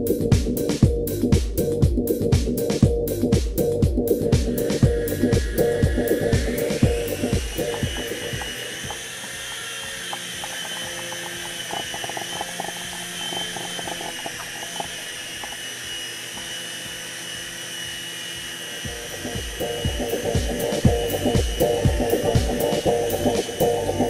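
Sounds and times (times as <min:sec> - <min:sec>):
toy helicopter rotors whining: 0:04.5 - 0:24.0.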